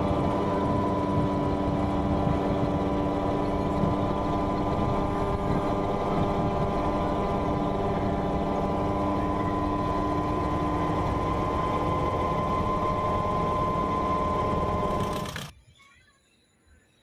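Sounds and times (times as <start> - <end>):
turboprop engine droning: 0.0 - 15.5.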